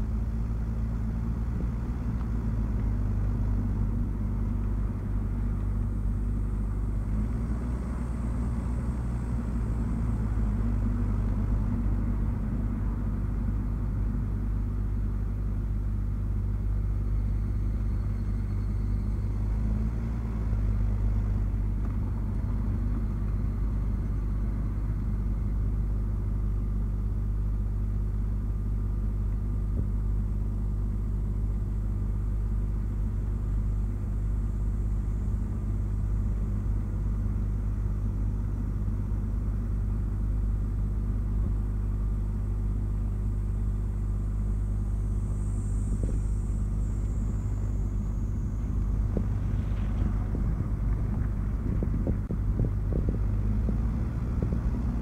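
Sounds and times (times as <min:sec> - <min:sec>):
faint steady hum tones: 0:00.0 - 0:55.0
low rumble of car tyres: 0:00.0 - 0:55.0.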